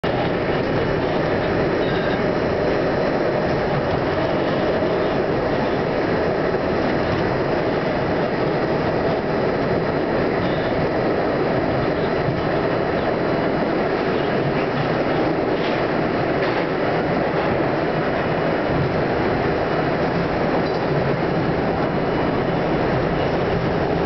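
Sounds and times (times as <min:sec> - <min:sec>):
subway train rumbling in tunnel: 0:00.0 - 0:24.0.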